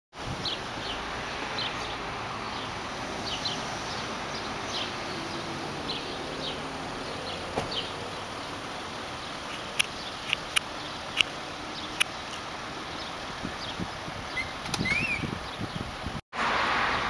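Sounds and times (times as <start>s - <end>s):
outdoor background noise: 0.1s - 17.0s
birds chirping: 0.3s - 16.2s.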